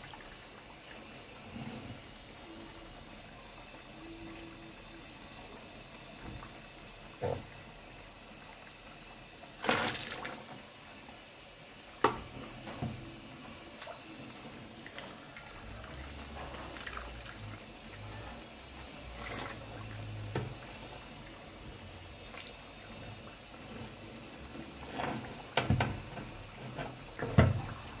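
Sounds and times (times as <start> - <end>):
wax and water sloshing in a pot: 0.0 - 28.0.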